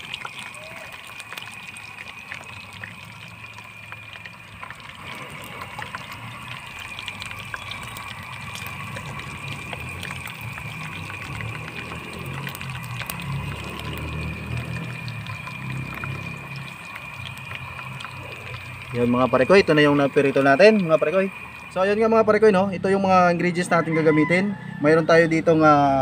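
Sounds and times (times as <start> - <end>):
chicken wings frying in oil: 0.0 - 26.0.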